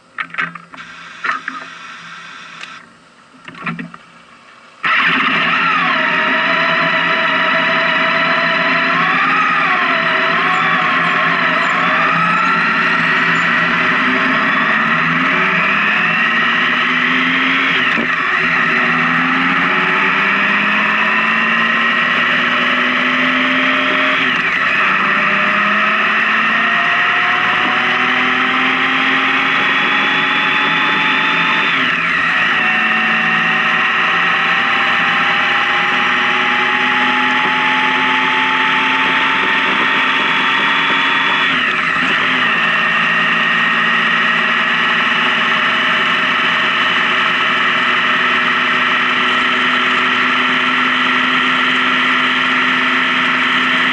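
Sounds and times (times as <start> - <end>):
wind and road noise: 0.0 - 53.9
motorcycle engine accelerating: 4.8 - 53.9.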